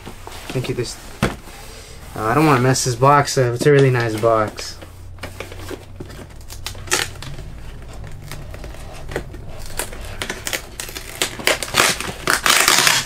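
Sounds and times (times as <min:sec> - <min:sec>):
packaging crinkling and rustling: 0:02.2 - 0:13.0.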